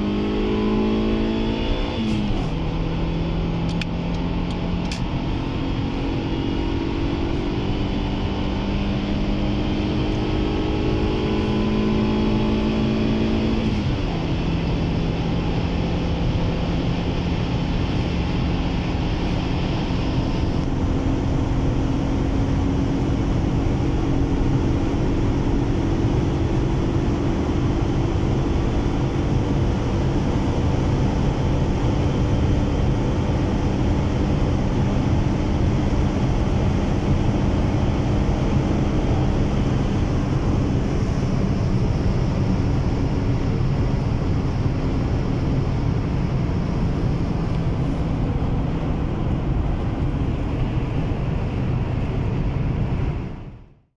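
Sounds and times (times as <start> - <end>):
car engine pulling hard: 0.0 - 53.6
wind and road noise: 0.0 - 53.9.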